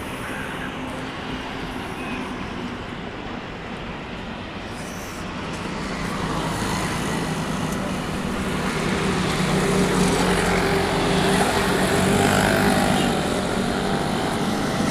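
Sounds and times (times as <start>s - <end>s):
broad rushing noise: 0.0s - 14.9s.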